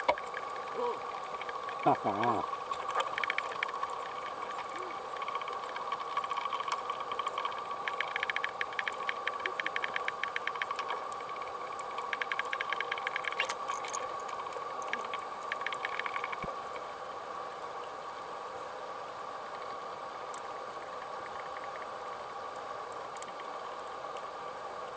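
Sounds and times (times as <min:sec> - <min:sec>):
underwater hum: 0:00.0 - 0:24.9.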